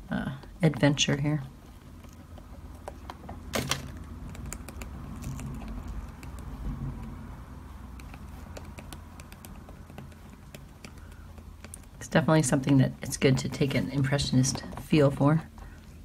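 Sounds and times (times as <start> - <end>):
low steady hum: 0.0 - 16.0
brush clicking and tapping: 0.4 - 15.8.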